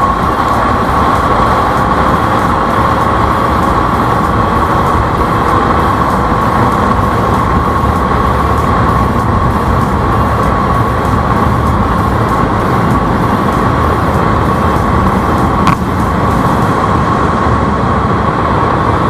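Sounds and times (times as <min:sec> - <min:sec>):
motorcycle engine whine: 0:00.0 - 0:19.0
wind rush over microphone: 0:00.0 - 0:19.0.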